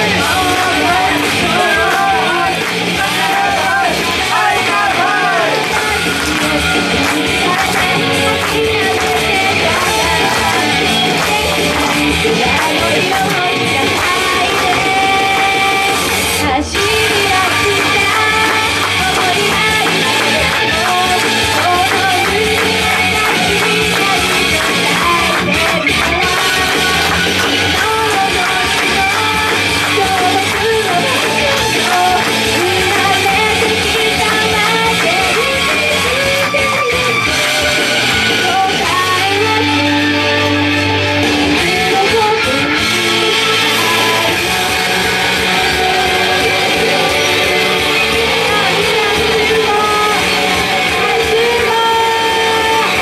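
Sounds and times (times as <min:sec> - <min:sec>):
woman singing into microphone: 0:00.0 - 0:37.4, 0:38.2 - 0:53.0
loud rock music: 0:00.0 - 0:53.0
strummed electric guitar: 0:00.0 - 0:53.0.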